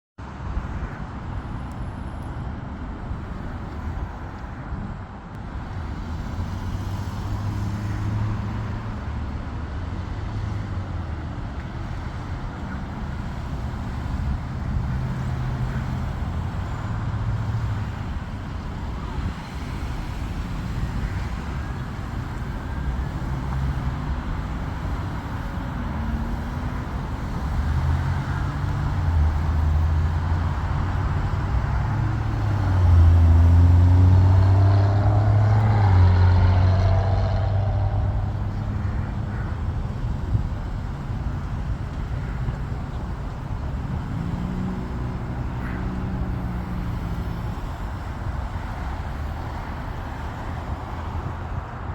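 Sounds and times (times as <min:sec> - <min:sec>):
outdoor noise: 0:00.2 - 0:51.9.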